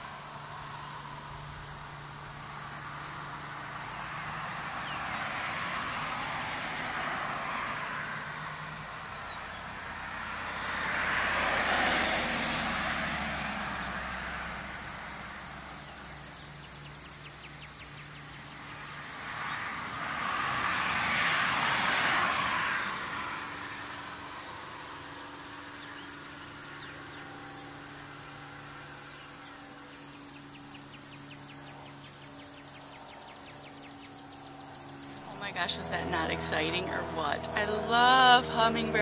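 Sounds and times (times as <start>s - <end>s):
road vehicles passing by: 0.0s - 39.0s.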